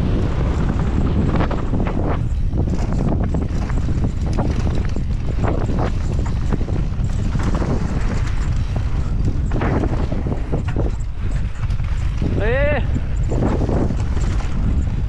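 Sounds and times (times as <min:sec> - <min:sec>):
bike rattling: 0:00.0 - 0:15.0
wind rumble on microphone: 0:00.0 - 0:15.0.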